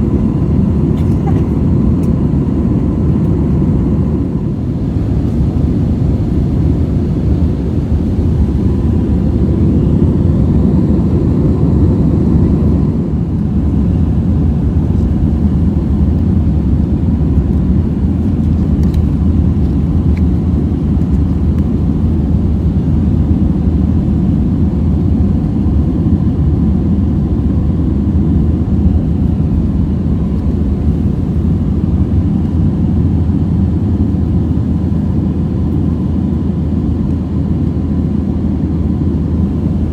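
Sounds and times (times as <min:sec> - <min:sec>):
aircraft cabin engine roar: 0:00.0 - 0:39.9
faint steady whine: 0:00.0 - 0:39.9.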